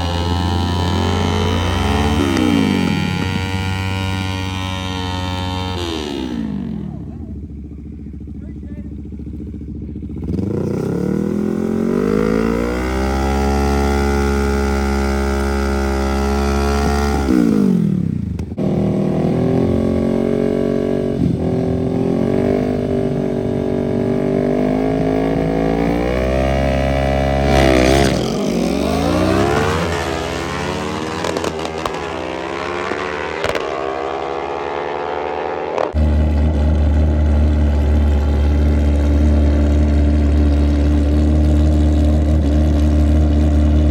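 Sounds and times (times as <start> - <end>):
mini bike engines racing: 0.0 - 43.9.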